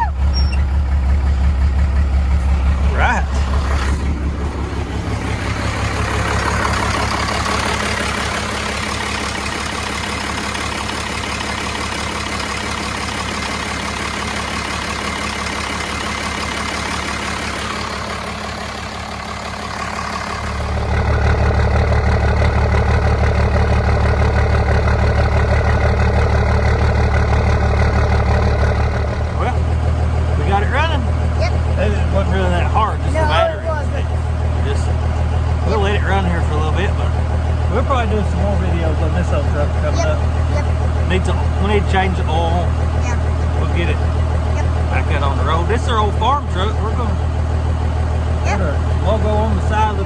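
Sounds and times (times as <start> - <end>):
diesel engine idling: 0.0 - 50.0.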